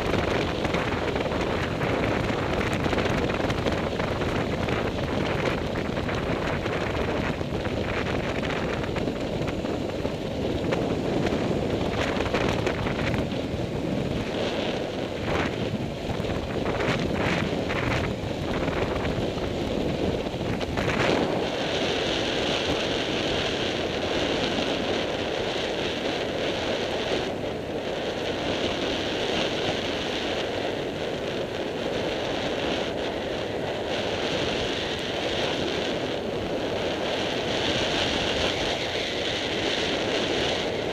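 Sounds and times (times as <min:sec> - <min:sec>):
motorcycle running off-road: 0:00.0 - 0:40.9
wind rushing over microphone: 0:00.0 - 0:40.9.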